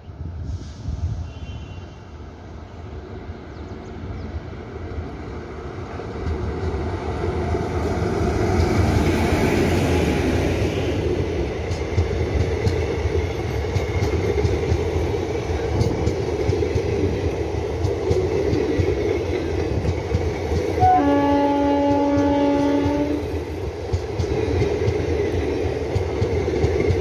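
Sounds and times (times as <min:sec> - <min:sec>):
passenger train passing: 0:00.0 - 0:27.0.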